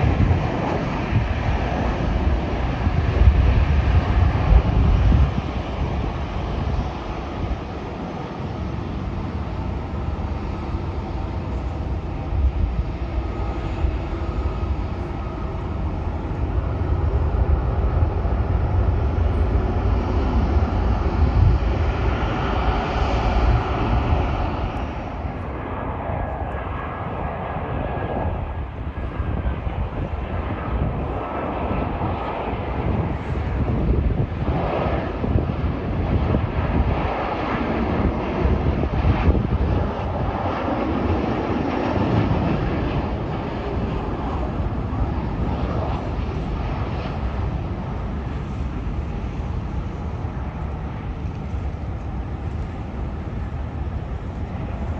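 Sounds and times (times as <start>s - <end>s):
jet airliner engines passing: 0.0s - 54.9s.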